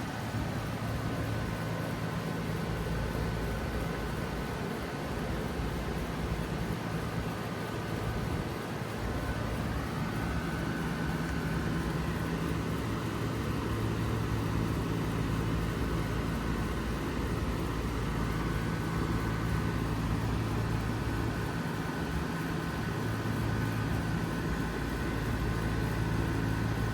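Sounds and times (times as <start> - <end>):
compressor humming: 0.0 - 26.9
condenser fan rushing: 0.0 - 26.9.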